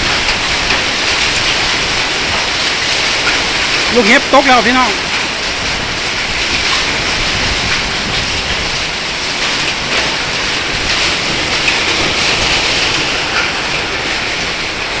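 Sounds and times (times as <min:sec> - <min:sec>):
hailstones knocking: 0:00.0 - 0:15.0
heavy rain hiss: 0:00.0 - 0:15.0.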